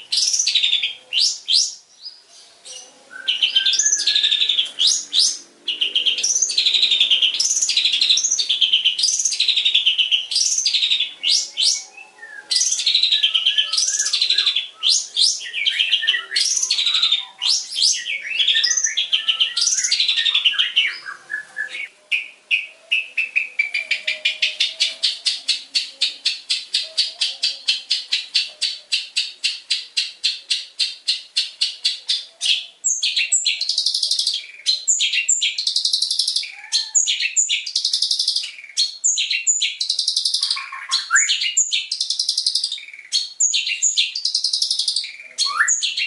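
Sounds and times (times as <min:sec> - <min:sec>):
shrike chattering song: 0:02.8 - 0:46.0.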